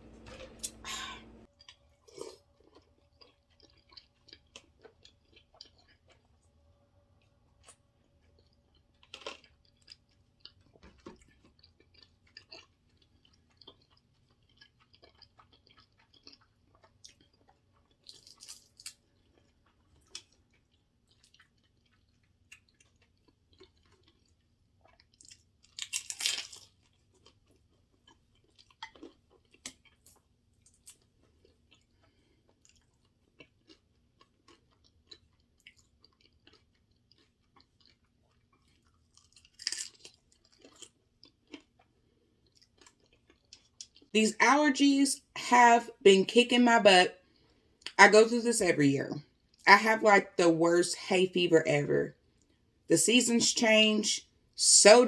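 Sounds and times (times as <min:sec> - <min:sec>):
person chewing food: 0:00.0 - 0:44.1.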